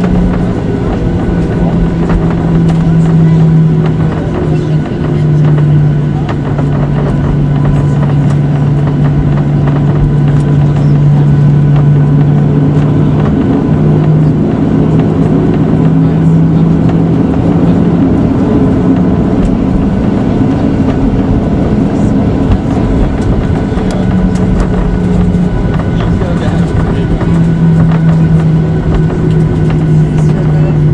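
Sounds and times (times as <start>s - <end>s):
jet engines heard from cabin: 0.0s - 30.9s.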